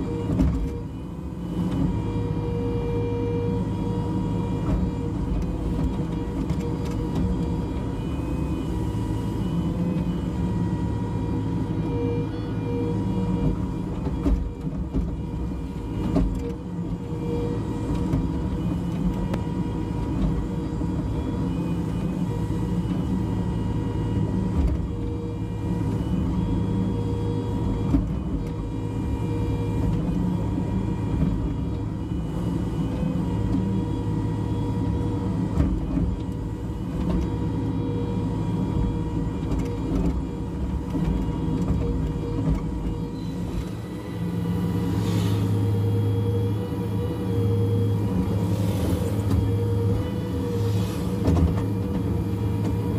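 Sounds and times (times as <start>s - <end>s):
excavator diesel engine whining: 0.0s - 52.9s.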